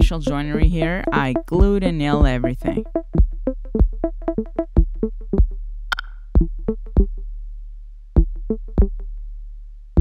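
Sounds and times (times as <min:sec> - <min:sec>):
electronic music with plucked synth: 0:00.0 - 0:07.4, 0:08.2 - 0:09.2.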